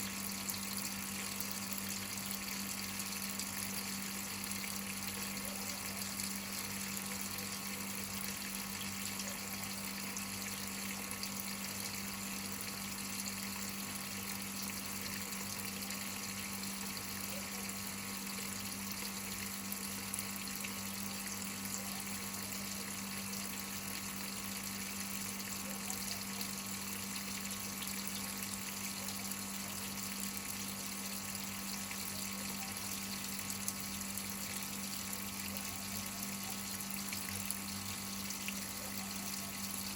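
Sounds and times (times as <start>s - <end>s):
water rushing into washing machine: 0.0s - 39.9s.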